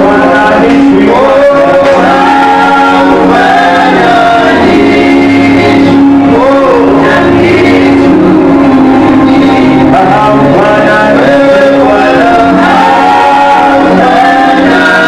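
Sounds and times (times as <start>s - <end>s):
gospel choir singing: 0.0s - 15.0s
musical accompaniment: 0.0s - 15.0s.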